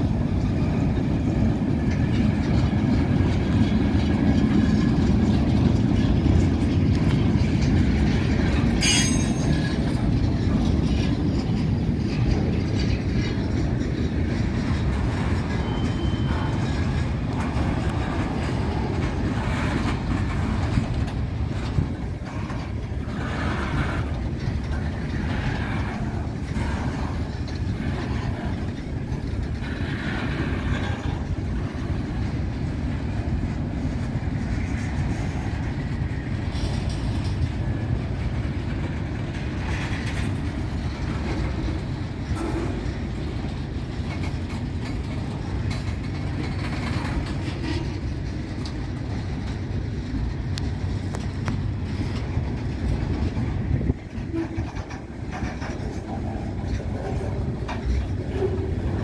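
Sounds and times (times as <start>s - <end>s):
freight train wheels rumbling: 0.0s - 59.0s
rail cars clattering: 0.0s - 59.0s.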